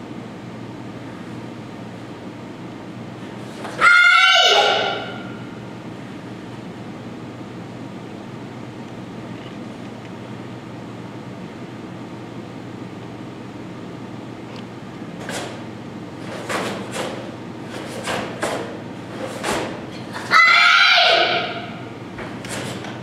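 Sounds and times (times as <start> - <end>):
steady room hum: 0.0 - 23.0.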